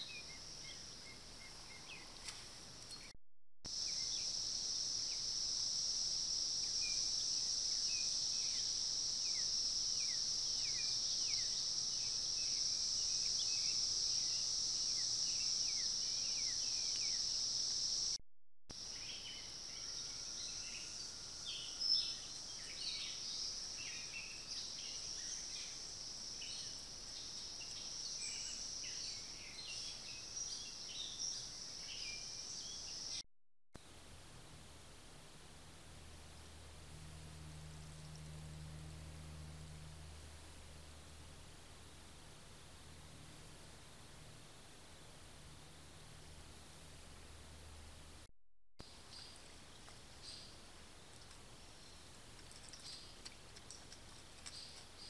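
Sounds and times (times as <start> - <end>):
insects droning: 0.0 - 3.1, 3.7 - 33.2, 33.8 - 55.0.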